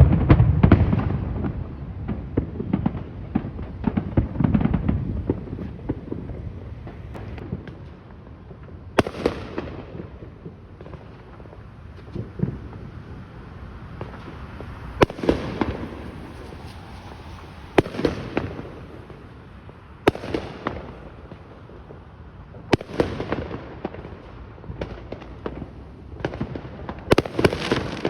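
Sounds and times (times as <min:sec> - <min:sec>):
fireworks bangs: 0:00.0 - 0:28.0
fireworks crackling and rumble: 0:00.0 - 0:28.0.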